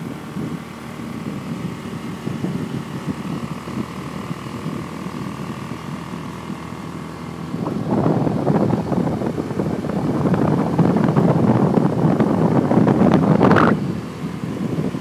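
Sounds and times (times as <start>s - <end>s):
motorbike engine running: 0.0s - 15.0s
wind on microphone: 0.0s - 15.0s.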